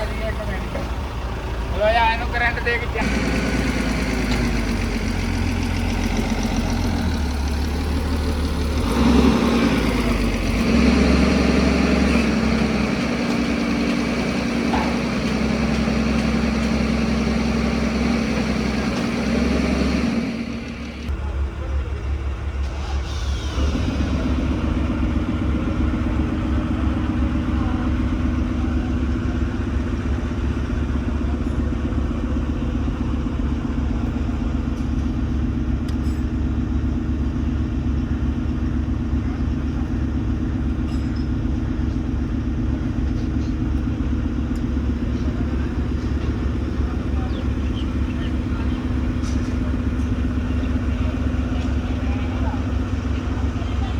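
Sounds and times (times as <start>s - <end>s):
heavy machine pulsing drone: 0.0s - 53.9s.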